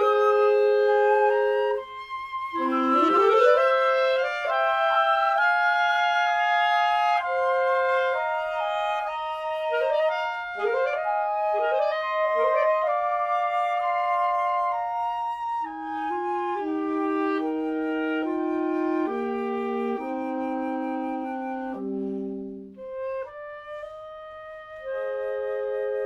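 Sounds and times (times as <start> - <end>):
woodwind trio playing chords: 0.0 - 26.0.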